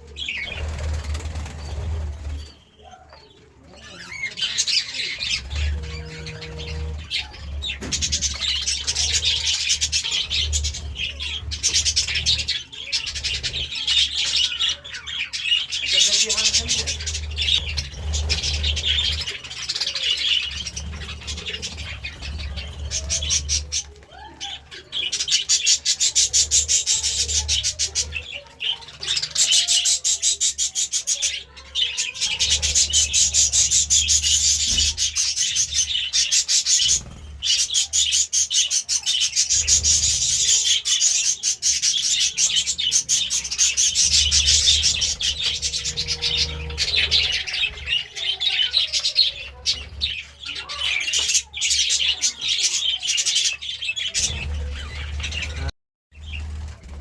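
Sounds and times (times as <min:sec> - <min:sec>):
budgies chirping and chattering: 0:00.0 - 0:57.0.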